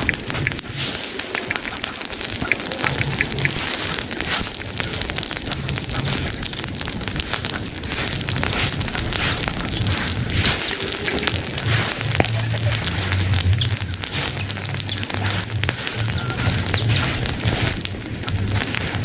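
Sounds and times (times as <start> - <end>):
burning leaves crackling and popping: 0.0 - 19.0.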